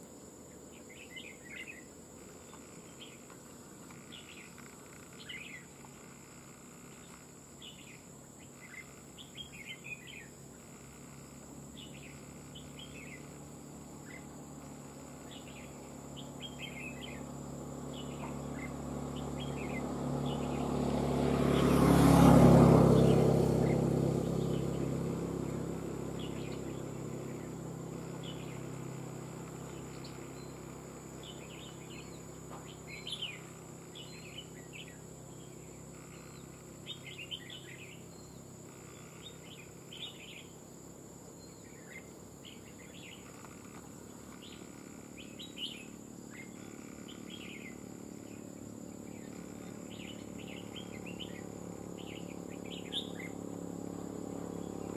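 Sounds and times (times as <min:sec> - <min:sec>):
birds chirping: 0:00.0 - 0:54.9
passing vehicle: 0:02.5 - 0:54.9.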